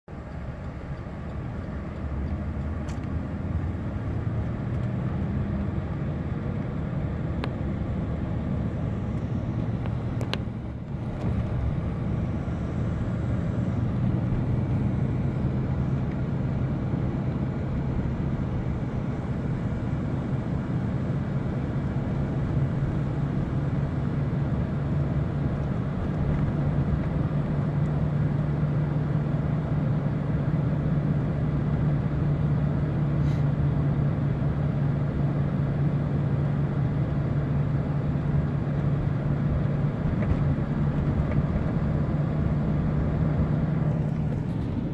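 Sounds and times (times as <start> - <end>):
car engine and road hum: 0.0 - 44.9.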